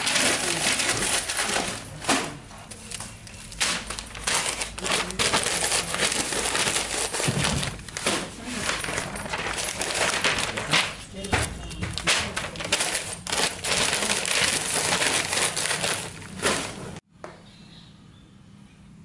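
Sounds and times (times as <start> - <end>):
newspaper rustling: 0.0 - 17.0.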